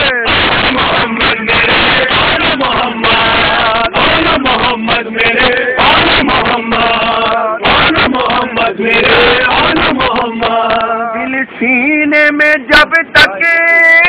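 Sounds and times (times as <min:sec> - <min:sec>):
men chanting together: 0:00.0 - 0:11.6.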